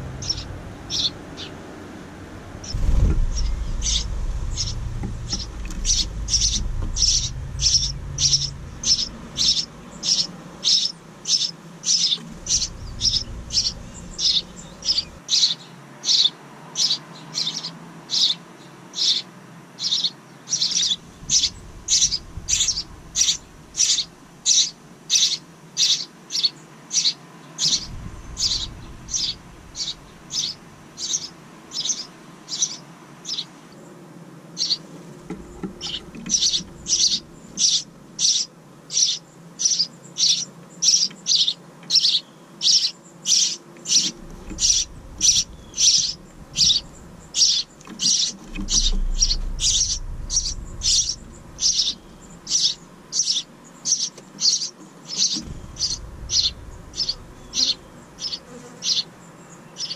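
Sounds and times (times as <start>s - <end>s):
wrens chirping: 0.0s - 59.9s.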